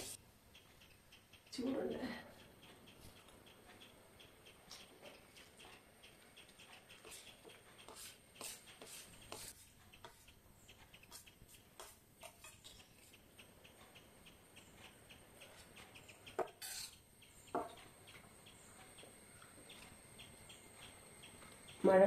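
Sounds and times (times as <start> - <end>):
faint even ticking: 0.0 - 22.0.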